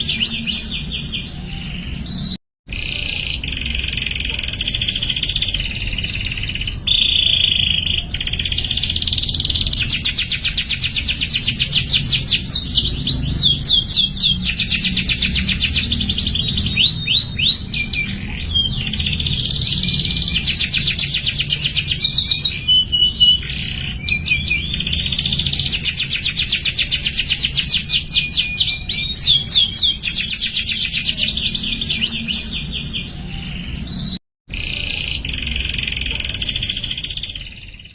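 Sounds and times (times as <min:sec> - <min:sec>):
canary trilling: 0:00.0 - 0:37.9.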